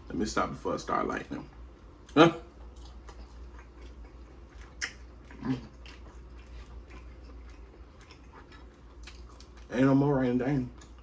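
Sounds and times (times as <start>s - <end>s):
steady low hum: 0.0s - 11.0s
soft chewing: 1.1s - 11.0s.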